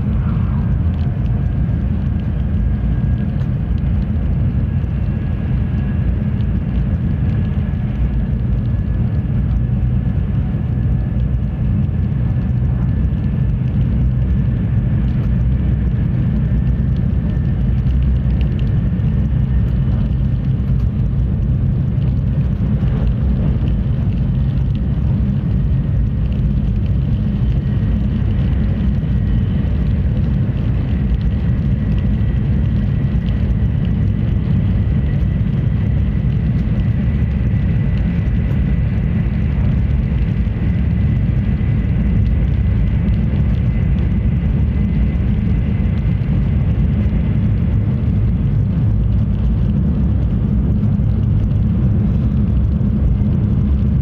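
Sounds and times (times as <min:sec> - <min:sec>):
train rumbling inside carriage: 0:00.0 - 0:54.0.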